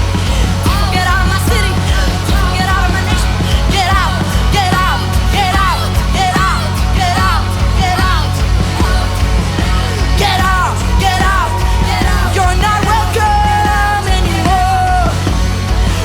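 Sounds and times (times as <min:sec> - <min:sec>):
person singing: 0:00.0 - 0:15.5
band playing worship music: 0:00.0 - 0:16.0.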